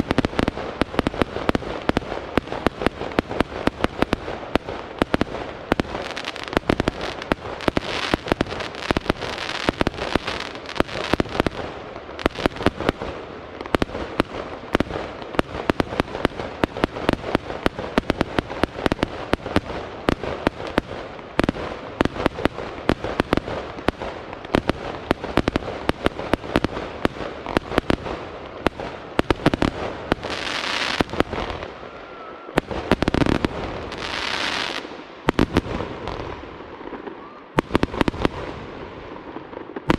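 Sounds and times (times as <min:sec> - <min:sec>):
fireworks hissing crackle: 0:00.0 - 0:39.9.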